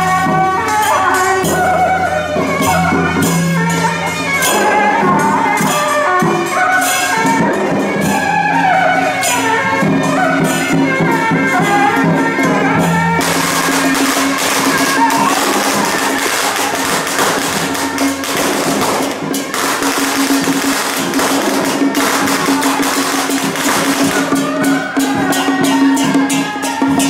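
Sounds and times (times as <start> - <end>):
drums and percussion: 0.0 - 27.0
wind instruments wavering melody: 0.0 - 27.0.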